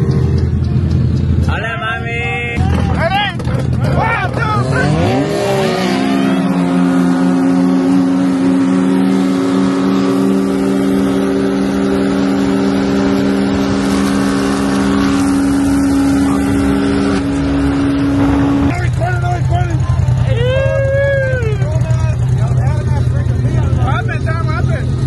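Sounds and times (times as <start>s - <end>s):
utv engines at high revs: 0.0s - 1.8s, 2.4s - 25.0s.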